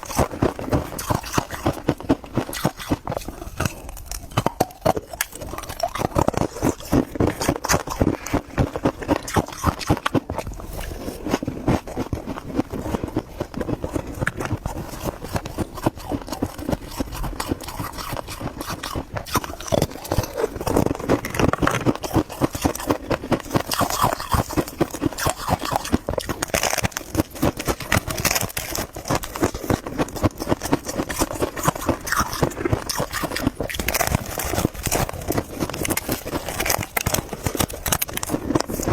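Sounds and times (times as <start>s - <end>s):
crunching of chewed frost: 0.0s - 38.9s.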